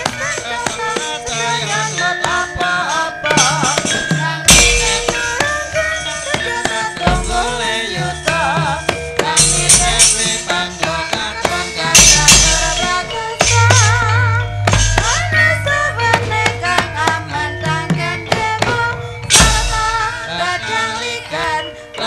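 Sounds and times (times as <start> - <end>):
gamelan metallophone tones: 0.0 - 22.0
wavering melody line: 0.0 - 22.0.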